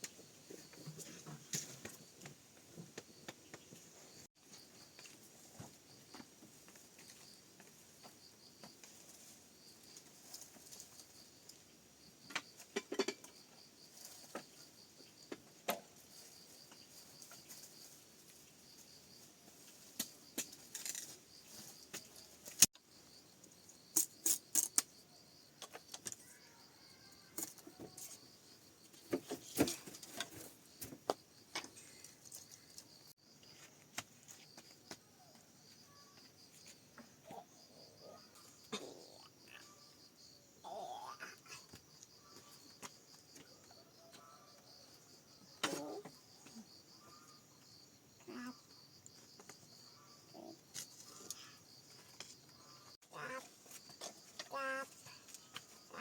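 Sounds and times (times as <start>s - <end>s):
insects trilling: 3.0s - 56.0s.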